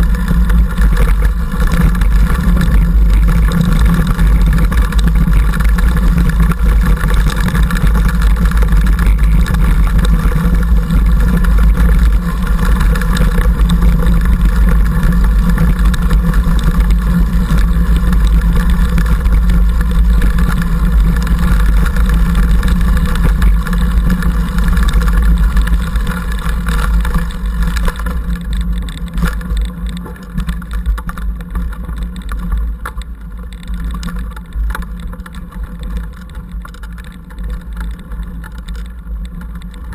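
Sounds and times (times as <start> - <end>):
bike riding rumble: 0.0 - 39.9
knocks and rattles from trail: 0.0 - 39.9.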